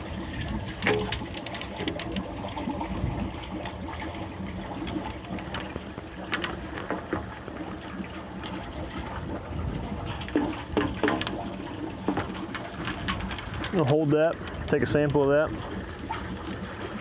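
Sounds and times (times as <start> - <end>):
aerator bubbling water: 0.0 - 17.0
low steady hum: 0.0 - 17.0.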